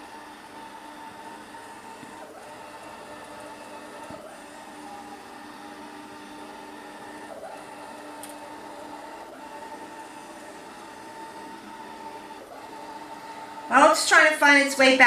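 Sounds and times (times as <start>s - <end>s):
robotic vacuum cleaner running: 0.0s - 15.0s.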